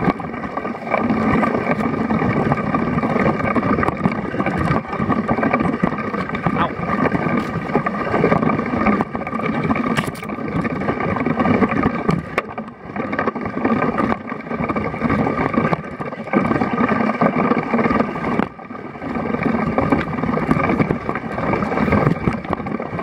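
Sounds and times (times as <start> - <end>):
wind and bike riding rumble: 0.0 - 23.0.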